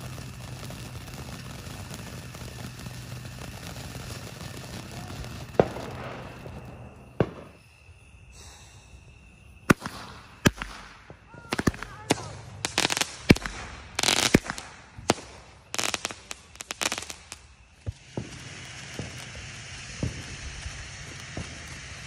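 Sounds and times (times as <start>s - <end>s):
firework bangs: 0.0s - 22.0s
firework fountain hissing: 0.0s - 22.0s.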